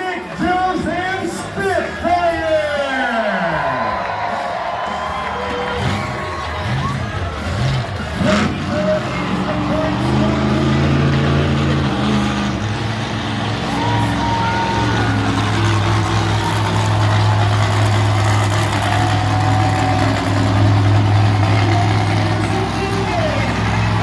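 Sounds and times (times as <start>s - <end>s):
monster truck engine running: 0.0s - 24.0s.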